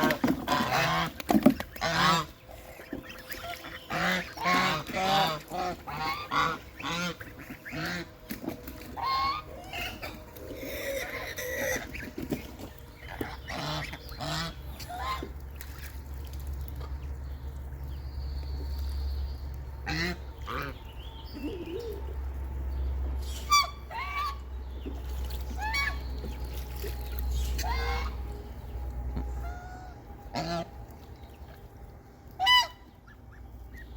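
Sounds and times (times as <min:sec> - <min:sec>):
birds calling: 0:00.0 - 0:33.9
steady low hum: 0:00.0 - 0:33.9.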